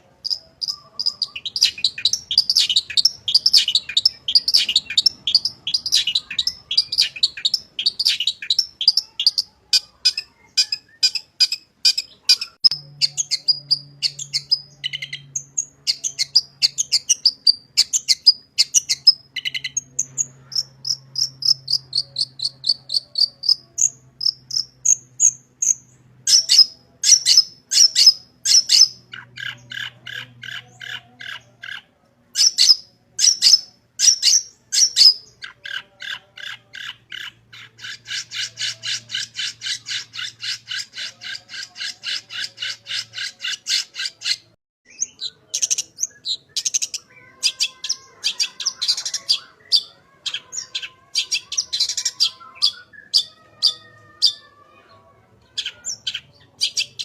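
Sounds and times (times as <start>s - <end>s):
shrike singing rapid chirps: 0.0s - 54.4s.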